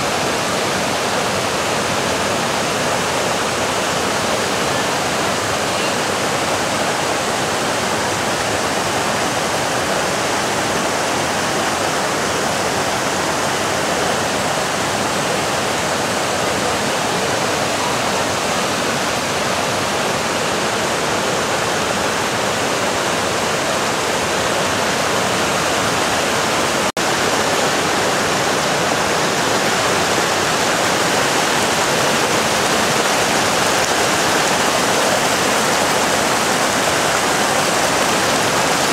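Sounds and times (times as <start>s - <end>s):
river cascading over boulders: 0.0s - 38.9s.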